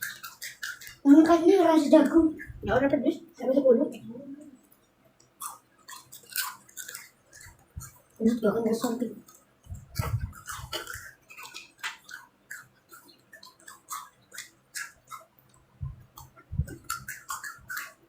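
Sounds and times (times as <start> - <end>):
crunchy chewing: 0.0 - 2.6, 4.4 - 18.0.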